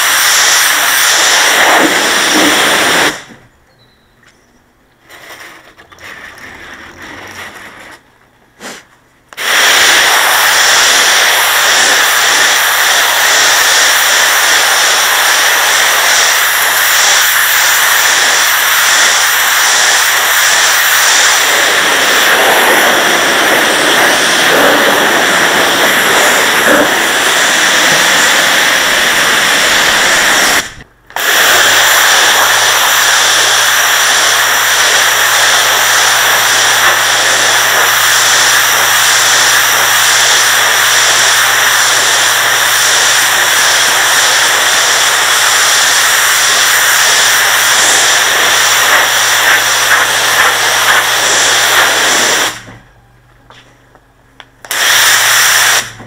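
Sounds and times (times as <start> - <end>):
pressure washer jet hissing: 0.0 - 3.4, 8.6 - 52.8, 54.7 - 56.0.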